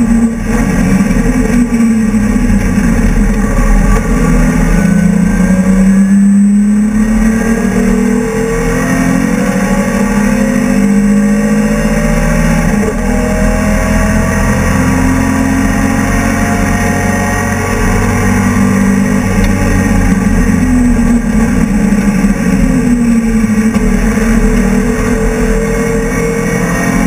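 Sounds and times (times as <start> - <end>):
race car engine under load: 0.0 - 27.0.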